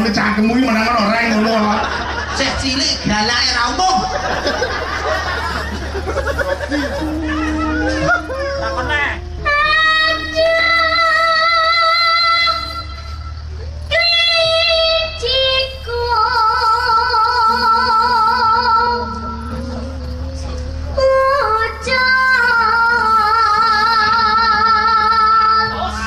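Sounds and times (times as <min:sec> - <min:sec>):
woman singing with vibrato: 0:04.4 - 0:26.0.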